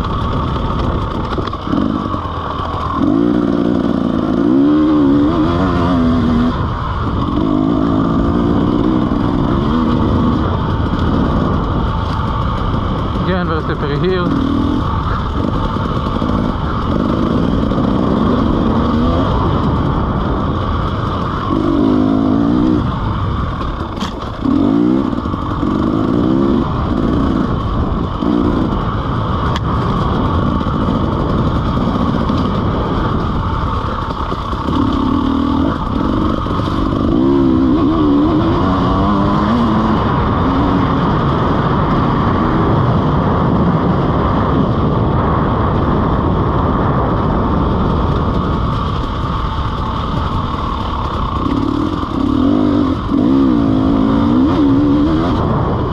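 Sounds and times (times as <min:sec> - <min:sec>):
motorbike engine revving: 0:00.0 - 0:55.9.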